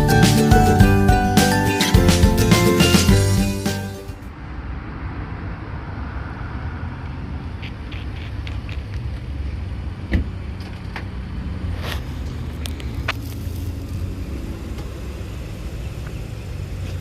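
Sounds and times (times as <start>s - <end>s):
vehicle engine rumble: 2.0s - 17.0s.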